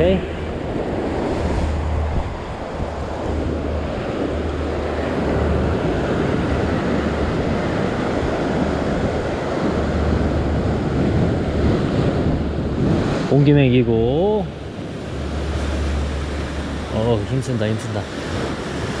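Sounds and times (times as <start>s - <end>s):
ocean surf breaking on rocks: 0.0s - 19.0s
wind buffeting microphone: 0.0s - 19.0s.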